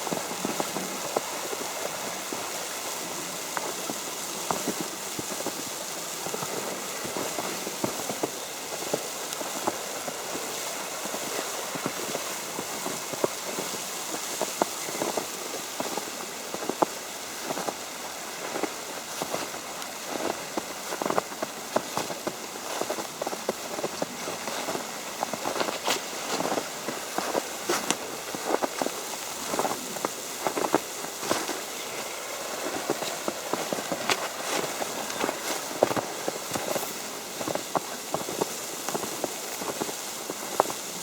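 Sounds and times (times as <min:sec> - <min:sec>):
wet snow ticking on umbrella: 0:00.0 - 0:41.0.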